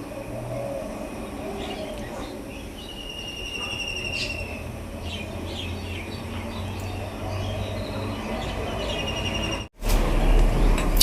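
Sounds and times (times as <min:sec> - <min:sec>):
bird chirps: 0:00.0 - 0:09.7
bird trill: 0:00.1 - 0:09.7.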